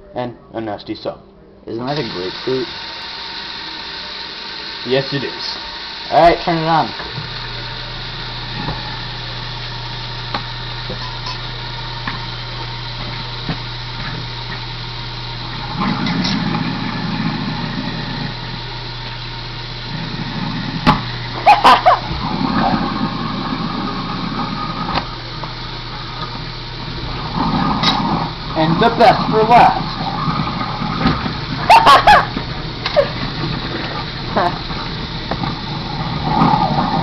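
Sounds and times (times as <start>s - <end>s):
garbage disposal grinding food: 1.8s - 37.0s.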